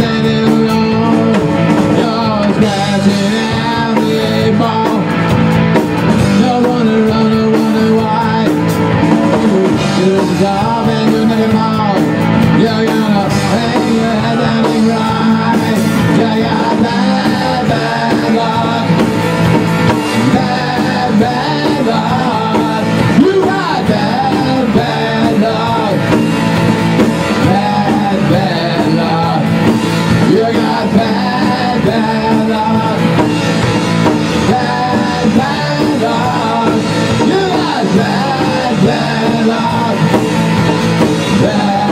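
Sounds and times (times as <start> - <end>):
person singing: 0.0 - 5.4, 6.0 - 26.4, 27.0 - 41.9
rock band playing live: 0.0 - 41.9.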